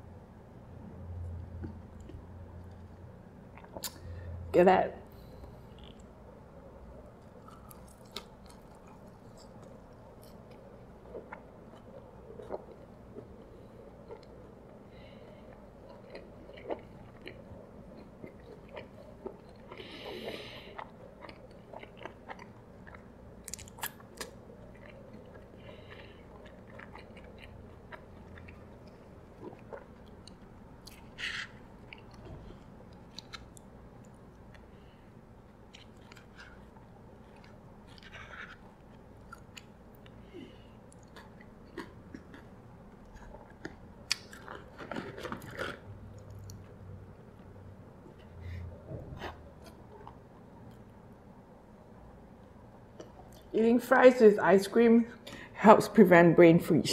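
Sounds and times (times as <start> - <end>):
person chewing food: 1.4 - 4.2, 5.3 - 6.3, 6.9 - 51.5.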